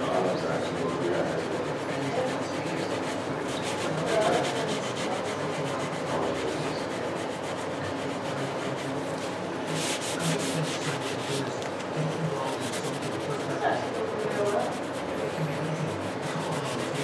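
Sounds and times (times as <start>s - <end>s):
cloth rubbing spinning wood on lathe: 0.0s - 17.0s.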